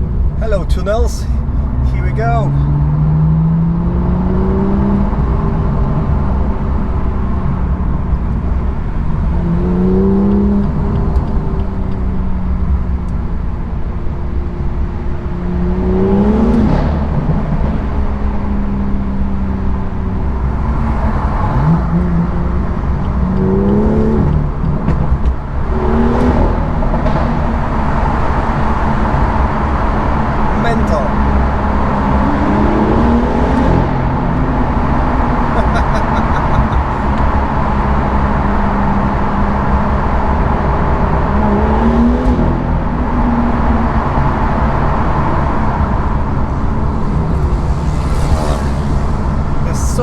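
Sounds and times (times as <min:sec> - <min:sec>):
car engine accelerating hard: 0:01.3 - 0:50.0.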